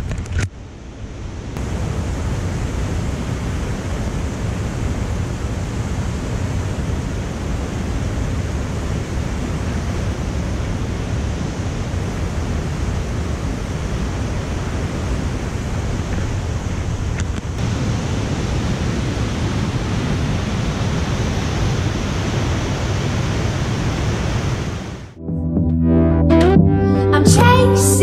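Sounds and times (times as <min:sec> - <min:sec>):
whitewater creek rushing: 0:01.6 - 0:25.0.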